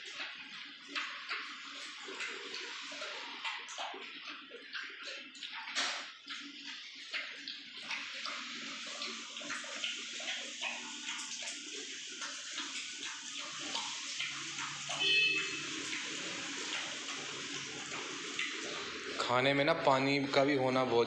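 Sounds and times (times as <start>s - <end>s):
dog chewing and lapping wet food: 0.0s - 21.0s.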